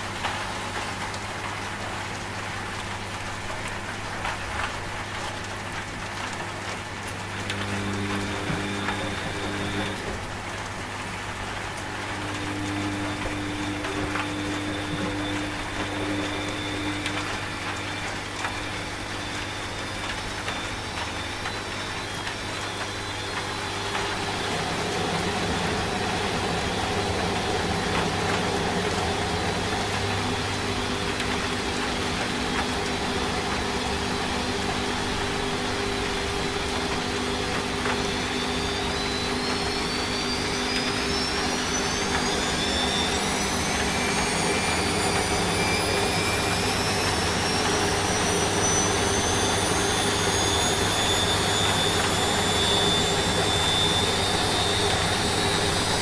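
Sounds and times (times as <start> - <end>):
washing machine drum spin whine: 0.0 - 56.0
washing machine motor hum: 0.0 - 56.0.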